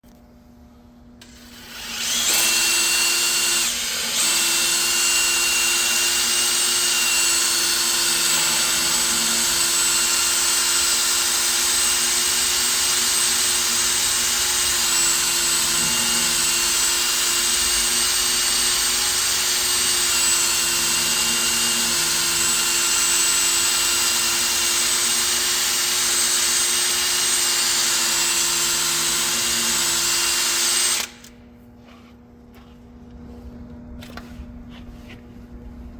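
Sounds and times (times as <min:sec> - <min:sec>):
power tool high whine: 0:01.2 - 0:31.3.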